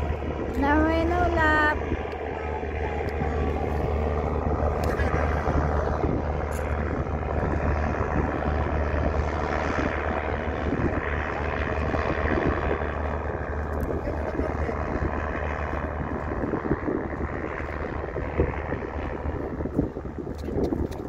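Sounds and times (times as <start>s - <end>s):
motorboat engine humming: 0.0s - 21.0s.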